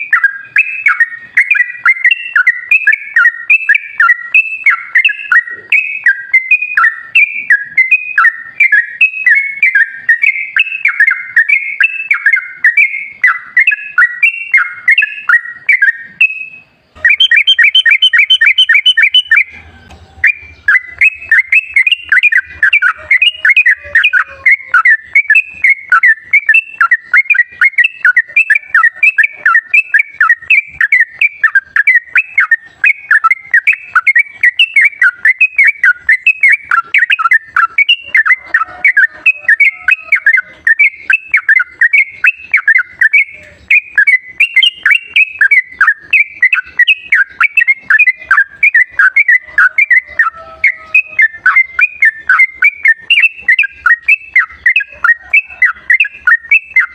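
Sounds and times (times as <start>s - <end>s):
bird song quick whistled notes: 0.0s - 56.9s.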